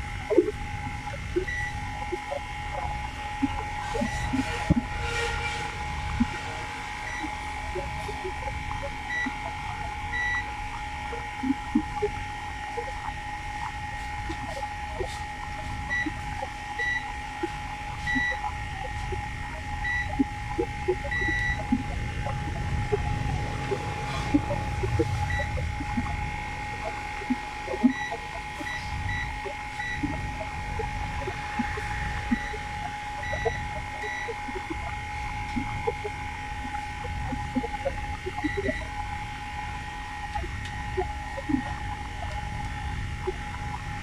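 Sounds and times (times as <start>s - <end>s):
multimeter continuity beeps: 0.0s - 44.0s
probe clicks: 0.0s - 44.0s.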